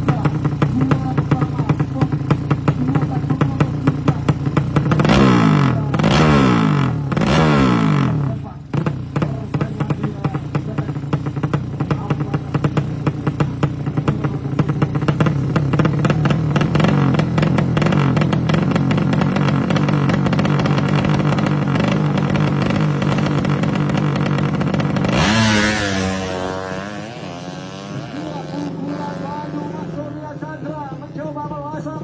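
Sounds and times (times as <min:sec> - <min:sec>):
drag-bike engine running: 0:00.0 - 0:32.0.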